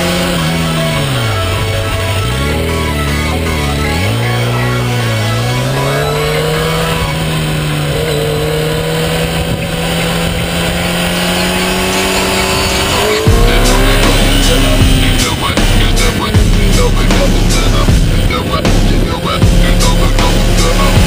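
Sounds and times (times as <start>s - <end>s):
motorcycle engine accelerating: 0.0s - 21.0s
music with heavy bass: 0.0s - 21.0s.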